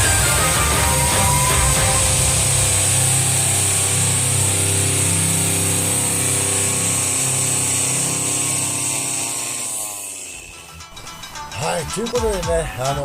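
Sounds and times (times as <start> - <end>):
power tool whining: 0.0 - 11.6.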